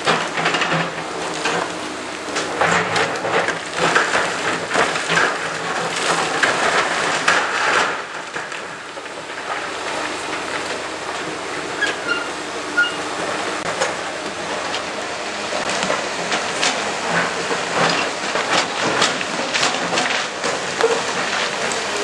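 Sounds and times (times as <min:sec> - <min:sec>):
rubble crunching and clattering: 0:00.0 - 0:12.3, 0:13.2 - 0:22.0
excavator engines running: 0:00.0 - 0:22.0.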